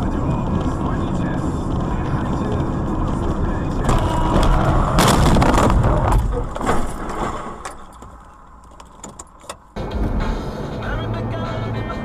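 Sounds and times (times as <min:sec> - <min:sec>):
clattering inside car: 0:00.0 - 0:09.7
road and engine noise: 0:00.0 - 0:12.0.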